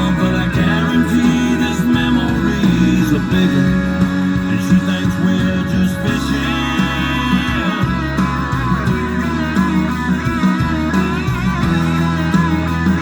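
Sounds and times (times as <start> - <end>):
bass and rhythm guitar: 0.0 - 13.0
lead guitar melody: 0.0 - 13.0.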